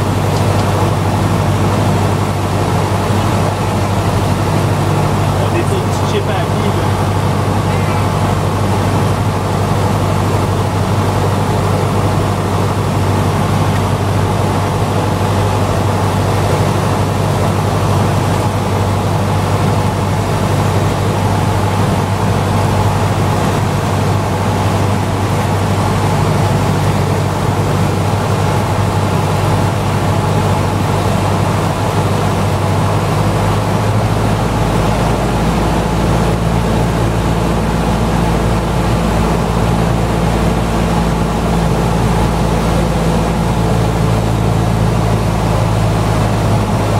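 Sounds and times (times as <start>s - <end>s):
propeller aircraft engine droning: 0.0s - 46.9s.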